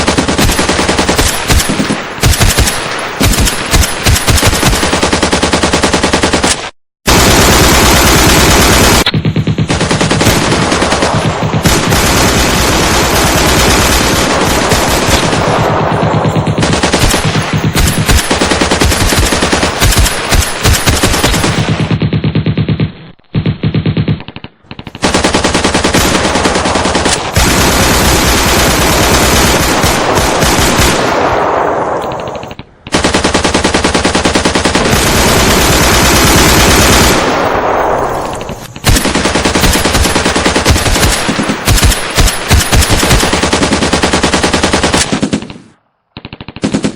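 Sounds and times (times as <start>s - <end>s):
automatic machine-gun fire: 0.0s - 22.8s, 25.0s - 45.5s.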